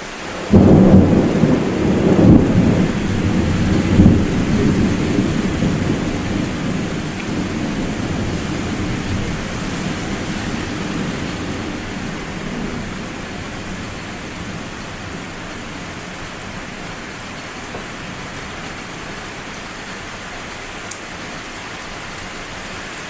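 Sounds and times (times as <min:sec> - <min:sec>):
steady rain: 0:00.0 - 0:23.0
thunder clap: 0:00.3 - 0:19.8
thunder rumbling: 0:00.3 - 0:20.6.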